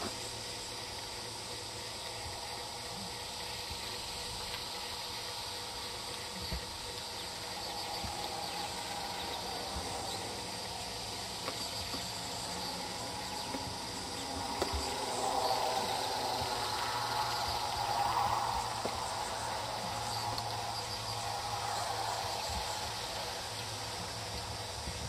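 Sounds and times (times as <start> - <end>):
faint insect buzzing: 0.0 - 25.0.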